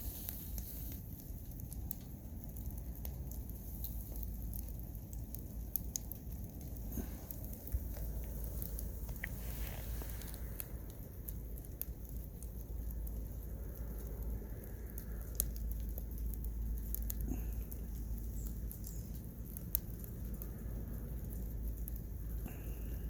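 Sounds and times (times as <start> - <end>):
low fire rumble: 0.0 - 23.0
wood fire crackling and popping: 0.0 - 23.0.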